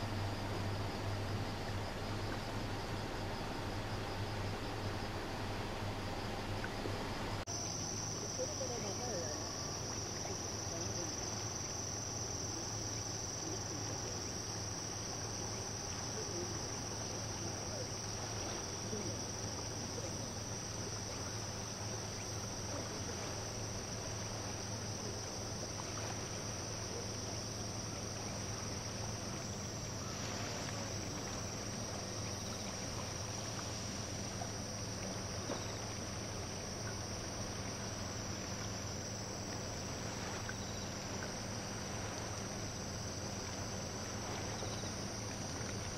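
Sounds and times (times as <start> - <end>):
insect chorus trilling: 0.0 - 45.9
low steady hum: 0.0 - 45.9.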